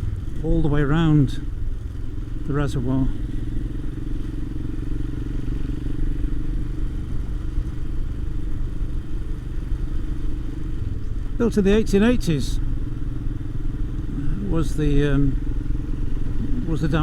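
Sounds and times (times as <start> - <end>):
motorcycle engine and exhaust running: 0.0 - 17.0.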